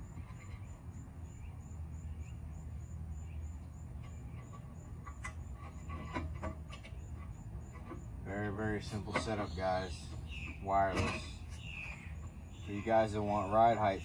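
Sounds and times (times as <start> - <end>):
insect chirping: 0.0 - 14.0.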